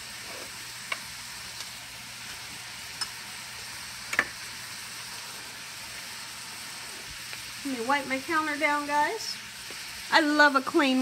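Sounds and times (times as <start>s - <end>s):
vegetables frying in grease: 0.0s - 11.0s.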